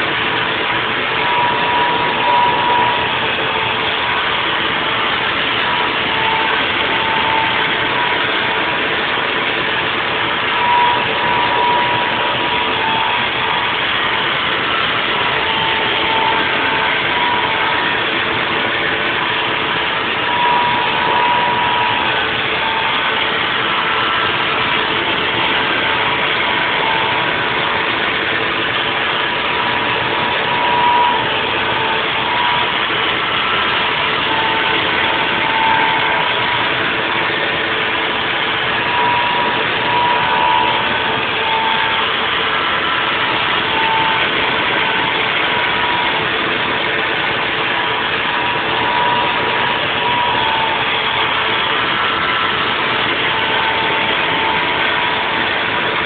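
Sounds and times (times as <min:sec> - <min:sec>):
milling machine running: 0:00.0 - 0:56.0
spindle cutter whine: 0:00.0 - 0:56.0.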